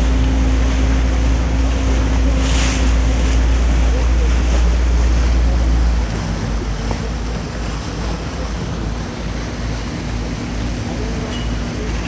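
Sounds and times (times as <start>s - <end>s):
boat engine humming: 0.0s - 12.0s
water rushing along hull: 0.0s - 12.0s.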